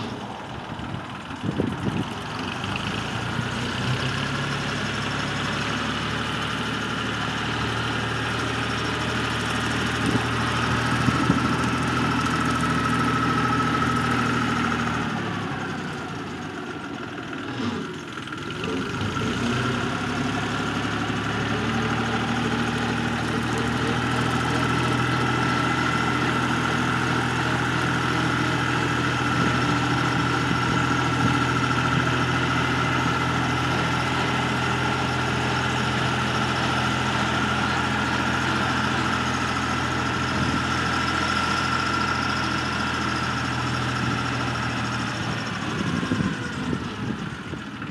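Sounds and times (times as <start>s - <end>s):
diesel tractor running: 0.0s - 47.9s.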